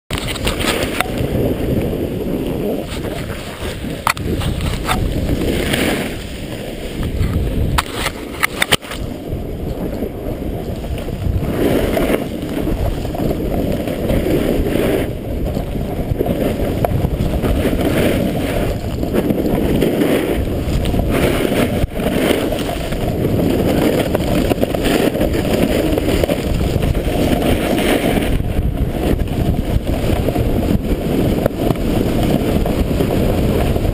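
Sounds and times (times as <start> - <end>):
snowboard scraping packed snow: 0.1 - 33.9
wind on microphone: 0.1 - 33.9.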